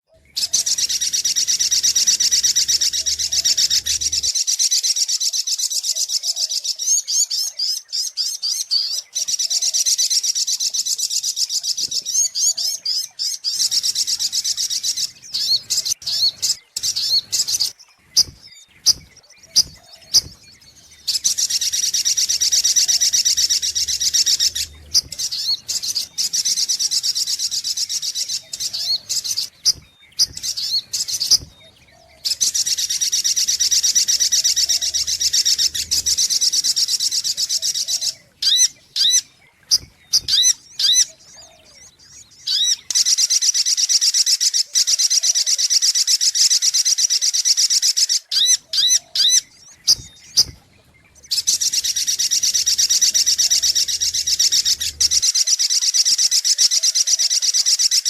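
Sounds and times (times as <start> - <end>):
bird trilling and chipping: 0.1 - 58.0.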